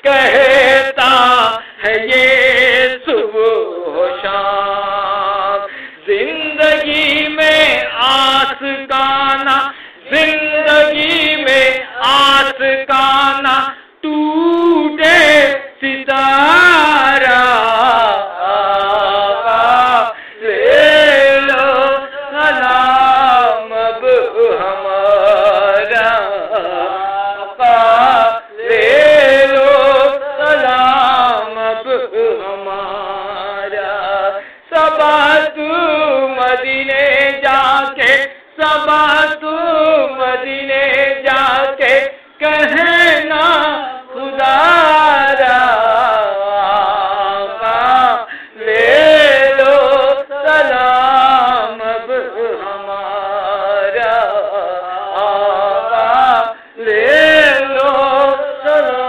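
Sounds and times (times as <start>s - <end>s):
man chanting: 0.0s - 59.0s.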